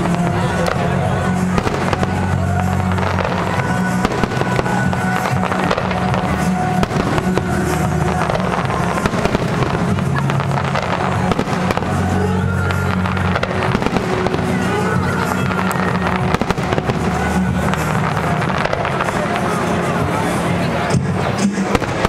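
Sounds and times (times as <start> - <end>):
fireworks bangs and crackles: 0.0 - 22.0
music with long held notes: 0.0 - 22.0.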